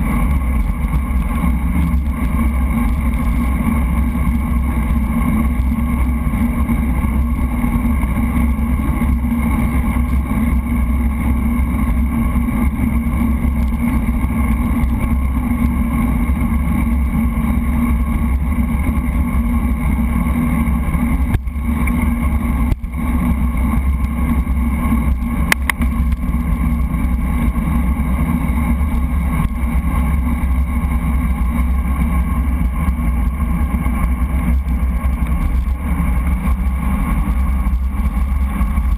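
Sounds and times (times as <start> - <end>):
bicycle road rumble: 0.0 - 38.9.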